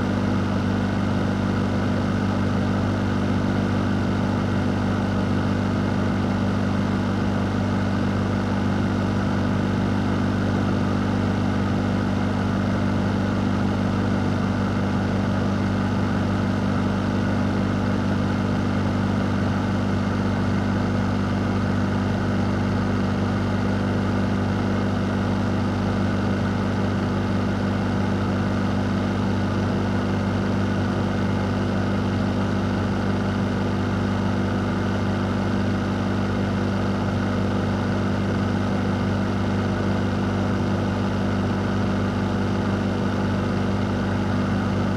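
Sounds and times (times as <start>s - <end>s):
fan running: 0.0s - 44.9s.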